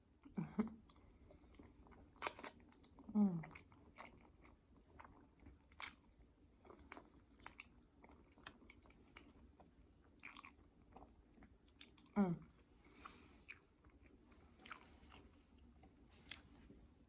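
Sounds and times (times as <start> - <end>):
wet chewing and mouth clicks: 0.2 - 12.2, 13.0 - 16.7.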